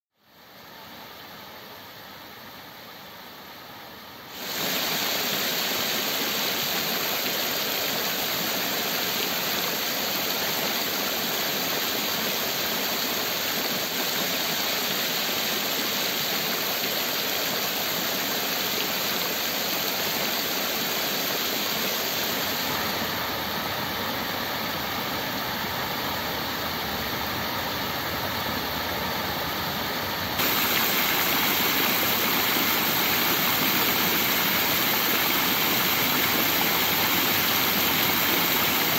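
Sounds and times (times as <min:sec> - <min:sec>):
fountain water splashing: 0:04.3 - 0:38.9.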